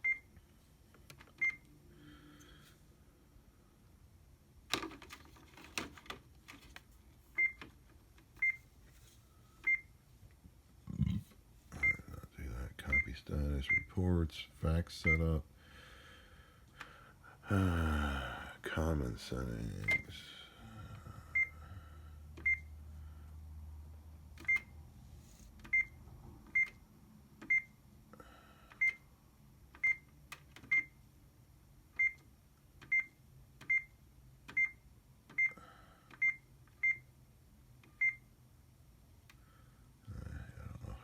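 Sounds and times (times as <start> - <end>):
faint low hum: 0.0 - 41.0.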